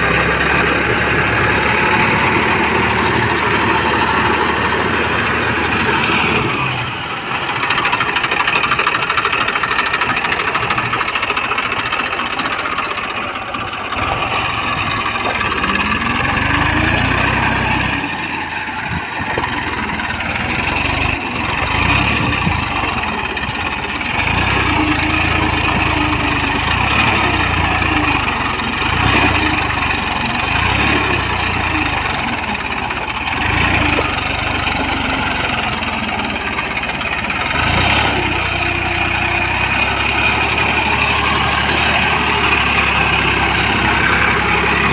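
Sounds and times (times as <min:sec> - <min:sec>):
tractor diesel engine revving: 0:00.0 - 0:44.9.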